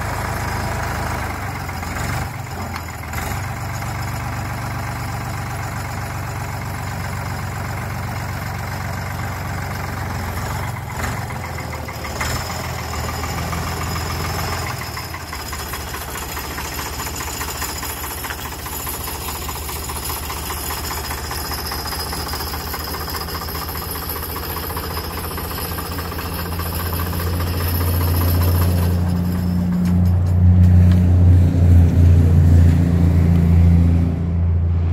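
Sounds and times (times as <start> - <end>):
tractor driving over gravel: 0.0 - 33.8
tractor diesel engine running: 0.0 - 34.9.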